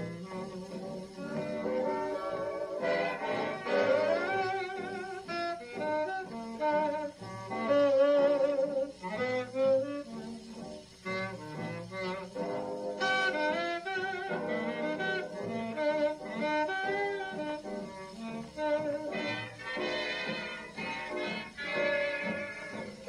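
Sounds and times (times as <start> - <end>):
swing big band: 0.0 - 23.0
tenor saxophone solo: 0.0 - 23.0.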